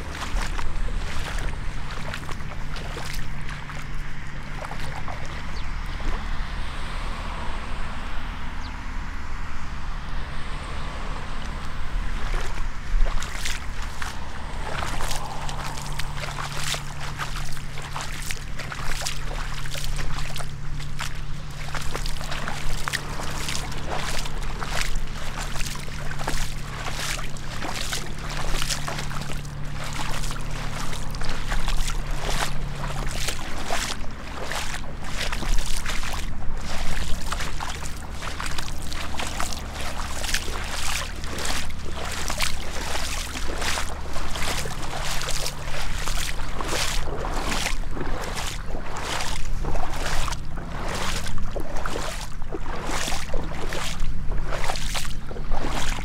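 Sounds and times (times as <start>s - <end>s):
footsteps splashing in water: 0.0s - 6.5s, 11.4s - 56.0s.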